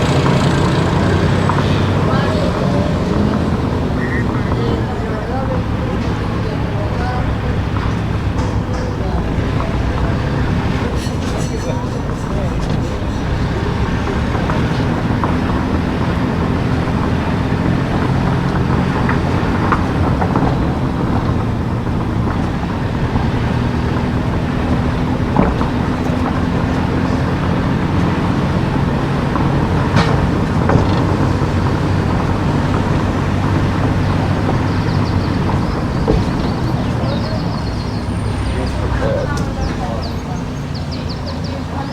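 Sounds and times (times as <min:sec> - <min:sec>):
car engine hum: 0:00.0 - 0:41.9
road and tyre noise: 0:00.0 - 0:41.9.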